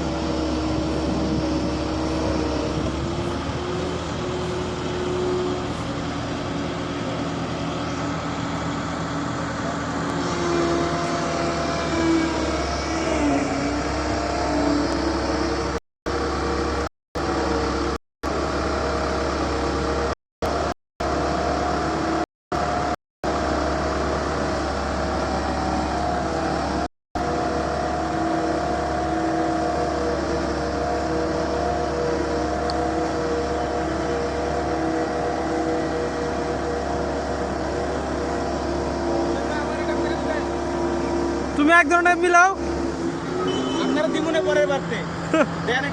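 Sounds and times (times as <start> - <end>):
road roller engine humming: 0.0 - 45.9.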